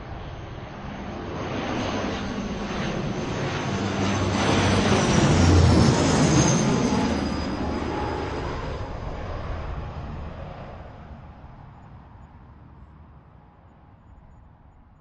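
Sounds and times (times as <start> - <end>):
propeller airplane engine: 0.0 - 14.3.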